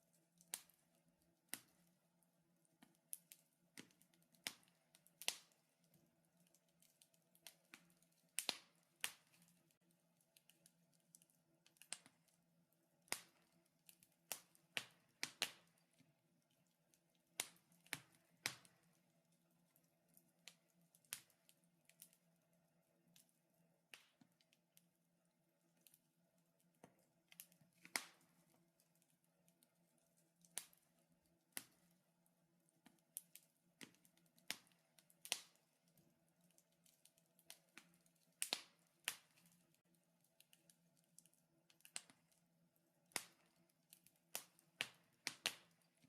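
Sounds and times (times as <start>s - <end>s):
wood fire crackling: 0.1s - 24.9s, 25.6s - 46.0s.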